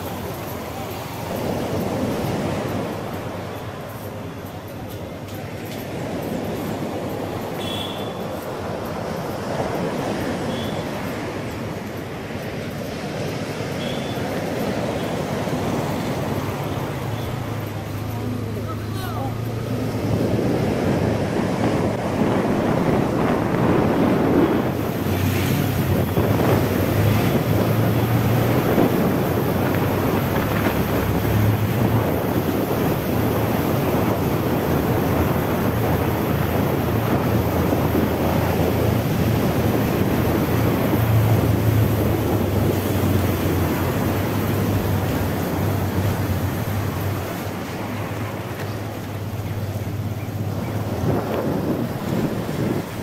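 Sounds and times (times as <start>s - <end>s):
motorcycle engine hum: 0.0s - 53.0s
wind rushing over microphone: 0.0s - 53.0s.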